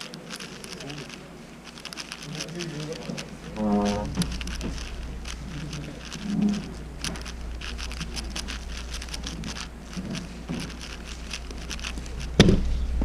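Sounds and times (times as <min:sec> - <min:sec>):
plastic puzzle cube turning clatter: 0:00.0 - 0:12.6.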